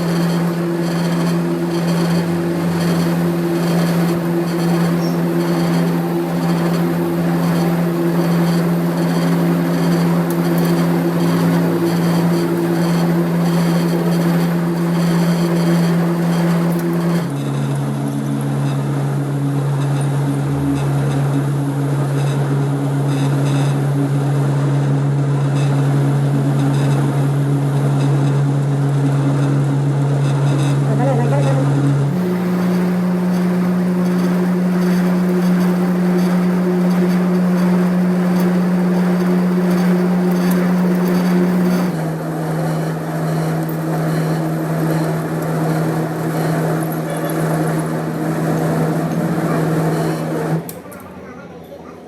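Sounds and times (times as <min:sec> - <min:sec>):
machine motor humming: 0:00.0 - 0:51.4.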